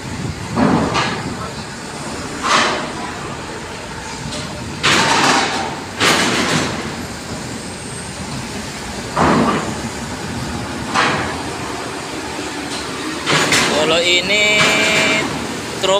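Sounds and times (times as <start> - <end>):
loud noisy bursts: 0.0 - 15.9
trucks rolling over steel ramp: 0.0 - 15.9
vehicle and harbour noise: 0.0 - 15.9.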